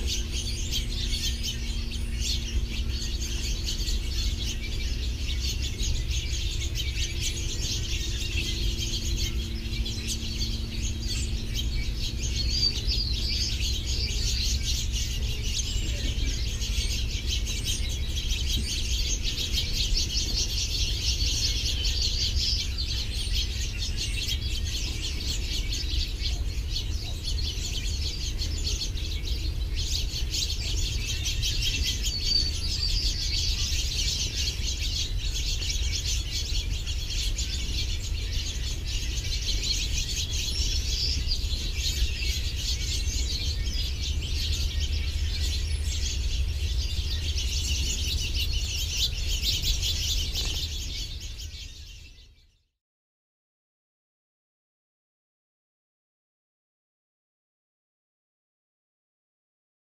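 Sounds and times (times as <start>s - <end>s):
steady low rumble: 0.0s - 52.2s
songbirds chirping and twittering: 0.0s - 52.7s.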